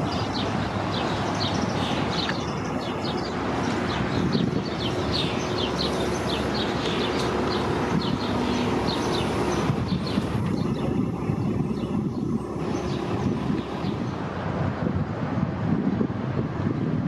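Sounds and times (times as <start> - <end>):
bus engines rumbling: 0.0 - 17.0
constant hum: 0.0 - 17.0.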